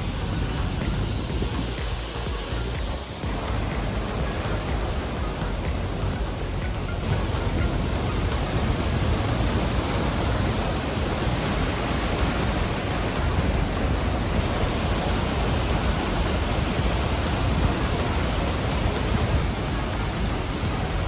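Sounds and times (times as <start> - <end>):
white water rushing: 0.0 - 21.0.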